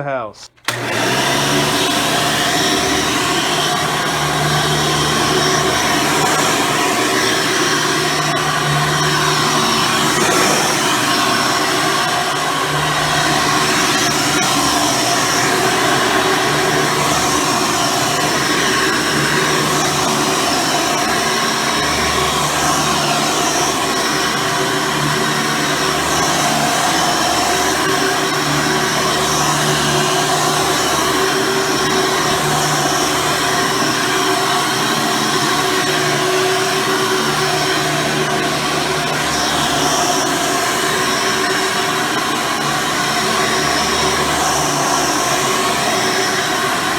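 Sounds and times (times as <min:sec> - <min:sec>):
upright vacuum cleaner running: 0:00.6 - 0:46.9.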